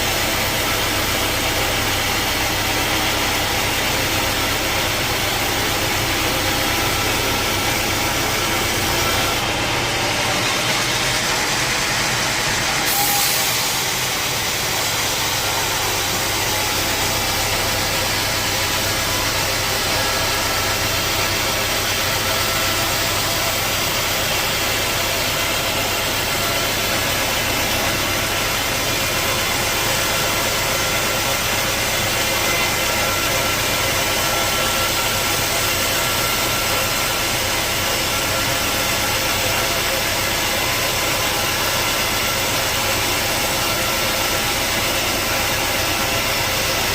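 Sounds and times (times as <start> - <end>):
sawmill machinery running: 0.0 - 46.9.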